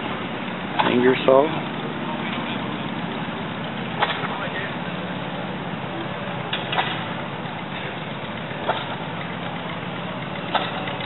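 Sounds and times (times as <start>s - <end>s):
engines droning: 0.0s - 11.0s.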